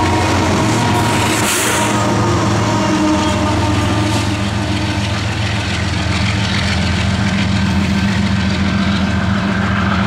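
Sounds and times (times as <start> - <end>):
locomotive diesel engine drone: 0.0 - 10.0.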